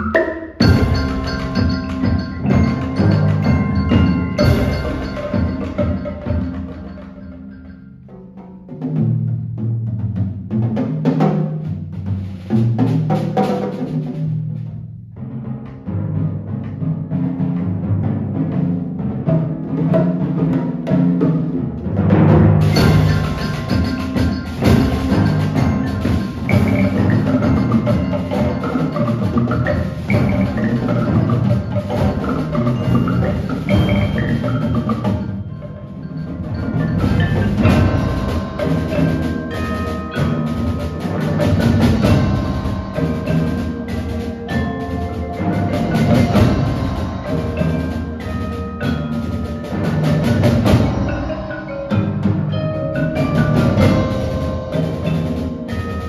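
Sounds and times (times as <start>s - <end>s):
percussion ensemble drumming: 0.0s - 56.0s.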